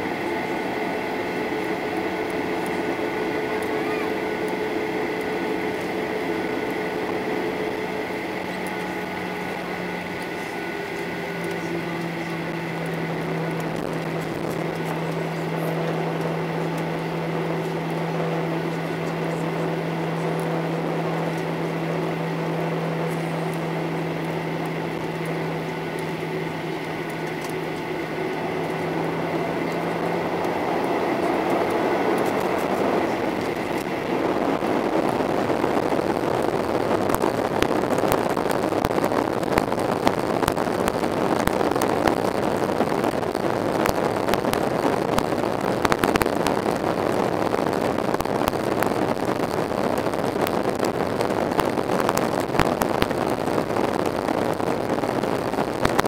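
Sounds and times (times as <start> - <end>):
aircraft engine hum: 0.0 - 56.0
rushing rumble on takeoff roll: 0.0 - 56.0.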